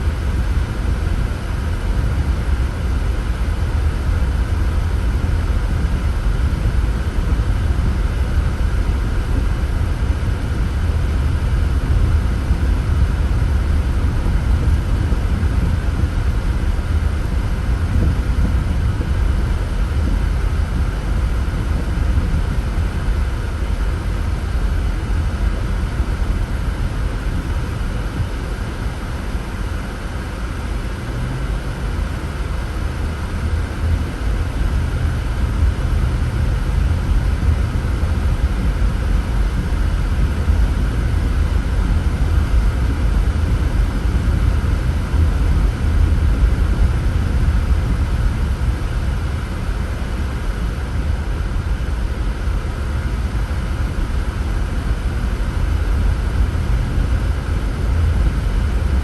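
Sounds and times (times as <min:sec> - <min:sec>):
car engine rumble: 0:00.0 - 0:59.0
tyre road noise: 0:00.1 - 0:51.5.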